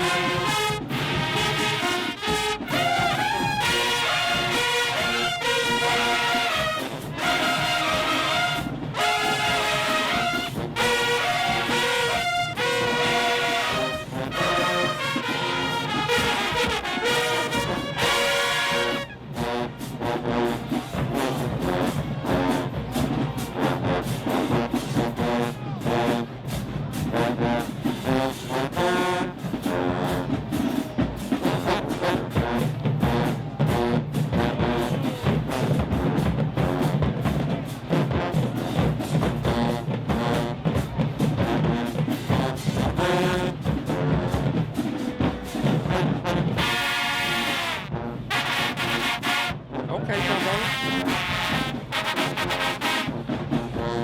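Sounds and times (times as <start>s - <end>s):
brass section melody: 0.0s - 54.0s
drumline: 0.0s - 54.0s.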